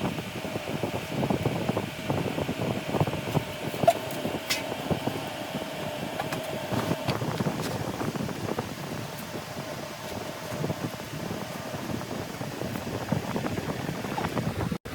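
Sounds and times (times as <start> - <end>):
steady machine hum: 0.0 - 14.9.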